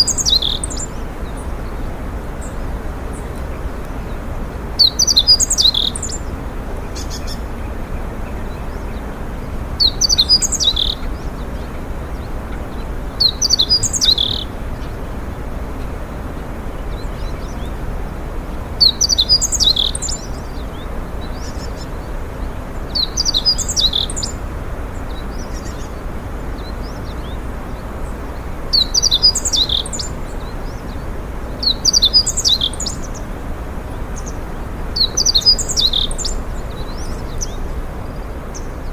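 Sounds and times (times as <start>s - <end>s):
songbird twittering: 0.0s - 16.0s, 18.8s - 38.9s.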